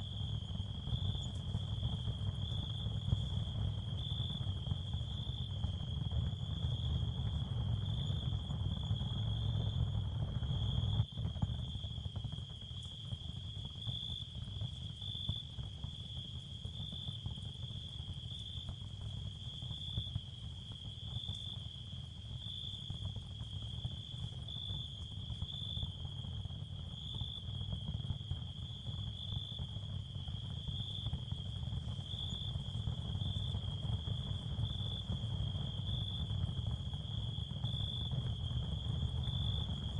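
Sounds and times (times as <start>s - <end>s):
high-pitched cricket chorus: 0.0s - 39.9s
low continuous rumble: 0.0s - 39.9s.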